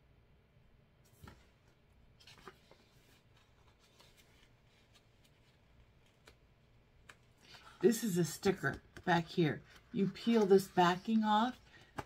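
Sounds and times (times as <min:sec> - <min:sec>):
cardboard booklet rustling and tapping: 0:01.1 - 0:12.0.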